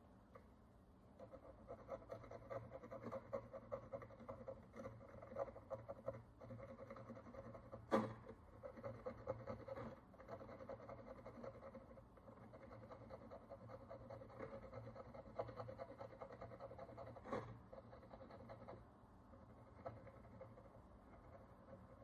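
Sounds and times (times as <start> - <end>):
fine tool scraping a coin: 1.2 - 22.0.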